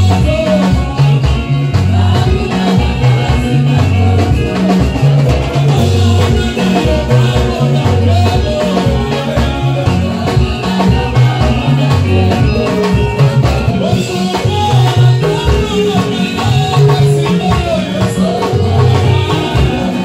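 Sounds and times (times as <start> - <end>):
band with electric guitar: 0.0 - 20.0
group singing: 0.0 - 20.0.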